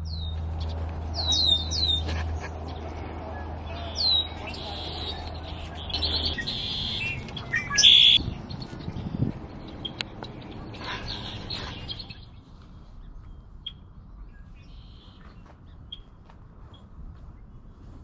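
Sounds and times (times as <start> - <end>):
blackbird calling and singing: 0.0 - 17.9.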